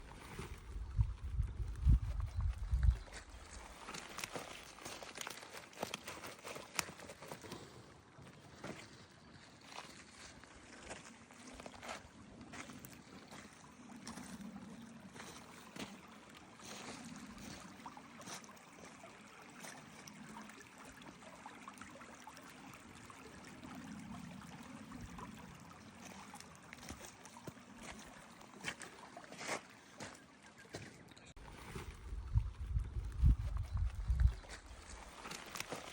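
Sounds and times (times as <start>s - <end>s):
stream water running: 0.0s - 35.9s.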